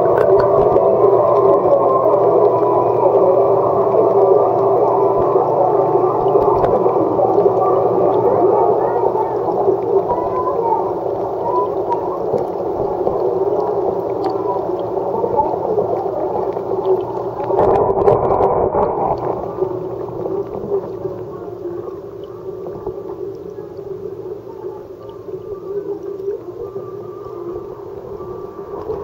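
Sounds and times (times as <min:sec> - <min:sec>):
aquarium water bubbling: 0:00.0 - 0:29.0.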